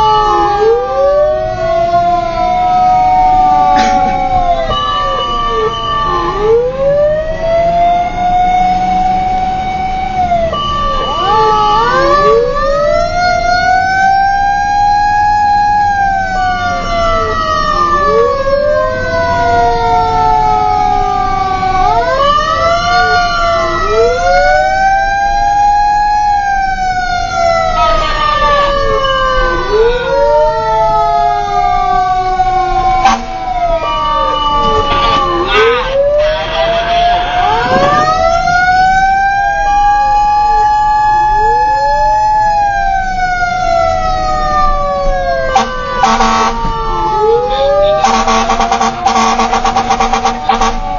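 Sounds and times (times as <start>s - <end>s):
fire truck siren wailing: 0.0s - 50.9s
steady high siren tone: 0.0s - 50.9s
truck engine and road noise: 0.0s - 50.9s.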